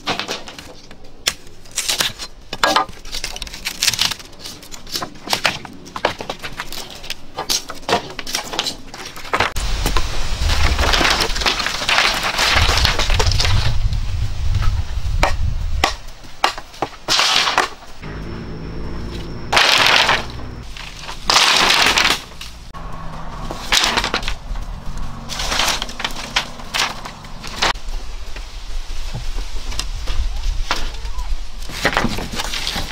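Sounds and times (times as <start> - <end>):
bamboo poles clattering: 0.0 - 13.8, 15.2 - 18.2, 19.2 - 32.9.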